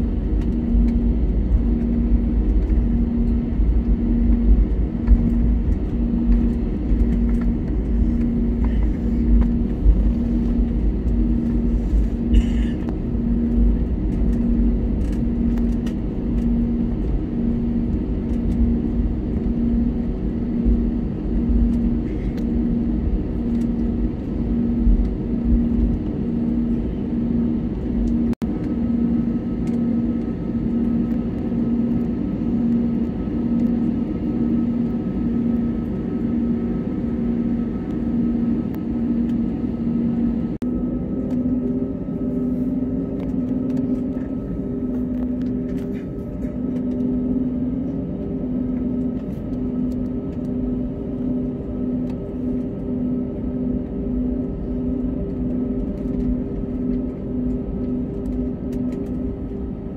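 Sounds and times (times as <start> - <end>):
airplane cabin low rumble: 0.0 - 59.9.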